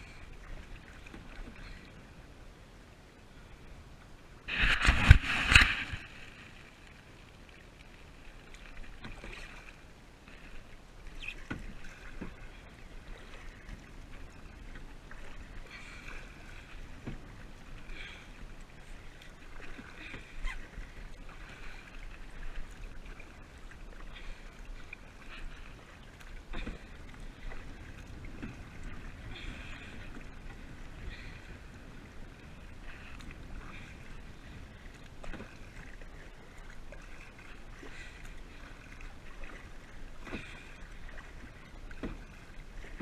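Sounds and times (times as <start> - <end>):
paddle strokes splashing in water: 0.0 - 2.3, 4.4 - 43.0.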